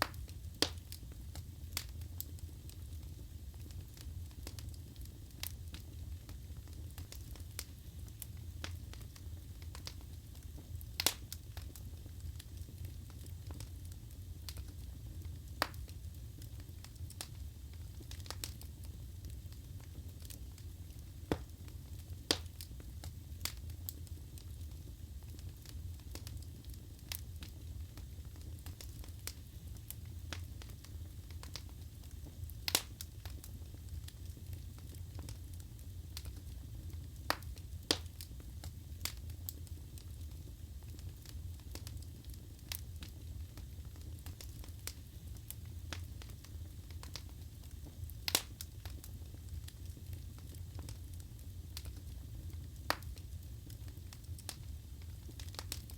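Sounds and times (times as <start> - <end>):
logs crackling and popping: 0.0 - 55.9
wood fire burning: 0.0 - 55.9.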